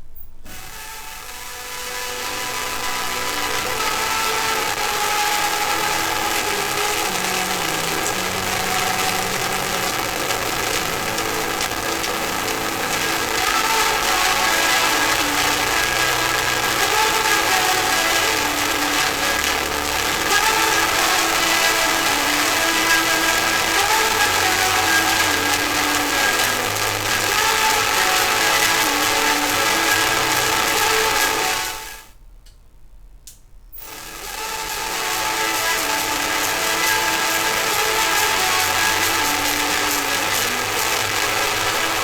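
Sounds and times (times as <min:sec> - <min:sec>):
plasma arc buzzing hiss: 0:00.4 - 0:32.1, 0:33.8 - 0:42.0
held pitched notes: 0:00.5 - 0:32.0, 0:33.8 - 0:42.0.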